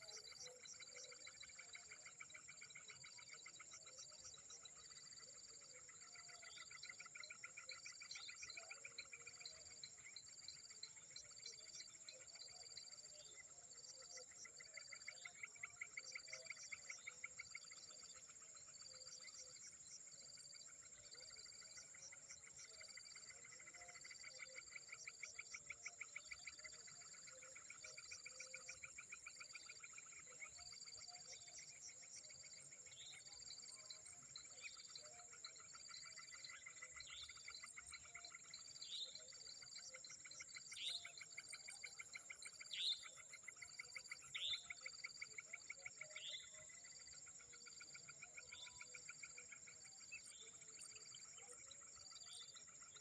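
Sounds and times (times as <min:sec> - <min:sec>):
insect chorus: 0:00.0 - 0:53.0.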